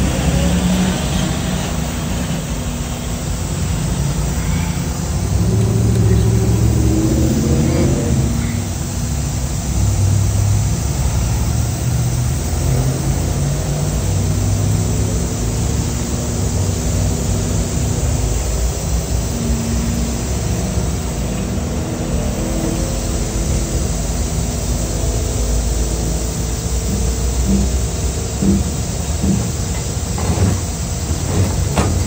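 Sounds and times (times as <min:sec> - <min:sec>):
diesel engine running at raised revs: 0:00.0 - 0:32.0.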